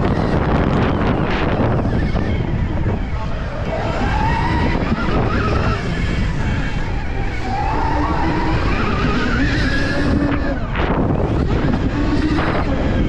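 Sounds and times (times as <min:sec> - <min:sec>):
electric motorbike motor whining: 0:00.0 - 0:13.0
wind noise on microphone: 0:00.0 - 0:13.0.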